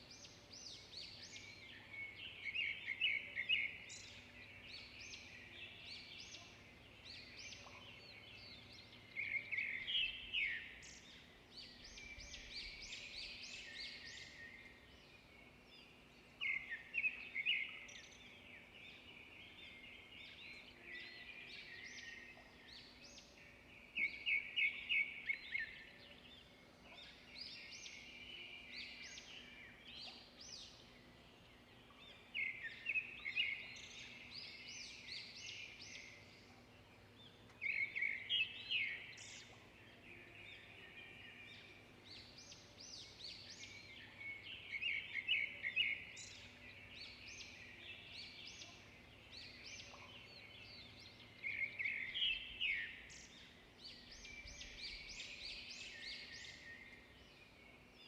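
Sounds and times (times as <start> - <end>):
bird song of rapid repeated notes: 0.0 - 58.0
songbirds chirping: 0.0 - 58.0.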